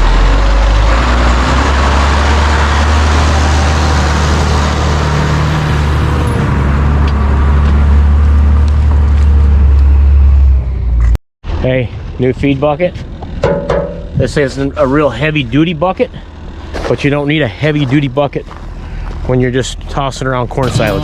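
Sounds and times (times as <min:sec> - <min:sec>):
tractor engine running: 0:00.0 - 0:10.8, 0:12.0 - 0:21.0.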